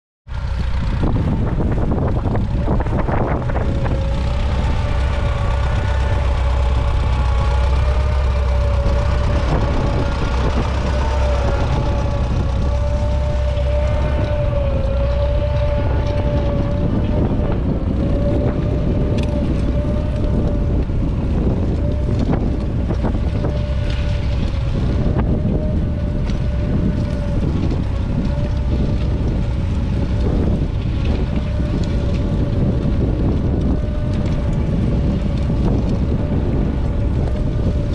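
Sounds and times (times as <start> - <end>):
steady whine: 0.3 - 37.9
tractor engine running under load: 0.3 - 37.9.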